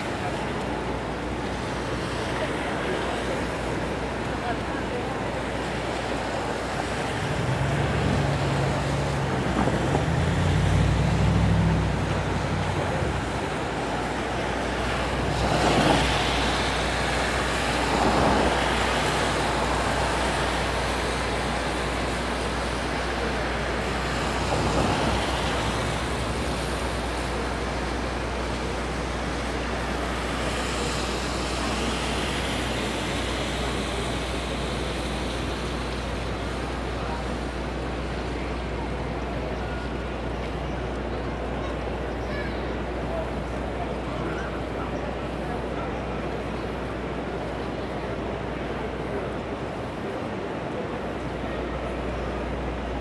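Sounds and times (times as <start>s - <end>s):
vehicles swishing past: 0.0s - 50.1s
road noise: 0.0s - 53.0s
vehicle engine hum: 0.0s - 53.0s.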